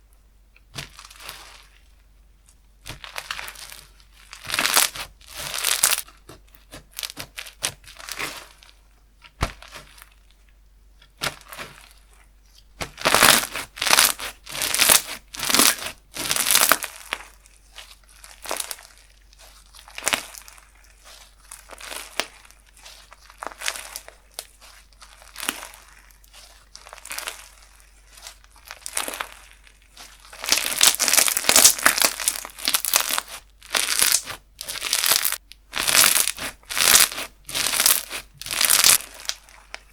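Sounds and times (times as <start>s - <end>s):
slime squishing and crackling: 0.7s - 1.9s, 2.8s - 39.9s.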